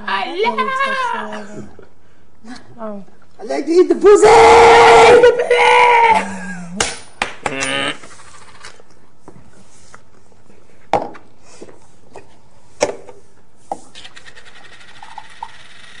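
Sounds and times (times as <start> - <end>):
low room noise: 0.0 - 16.0.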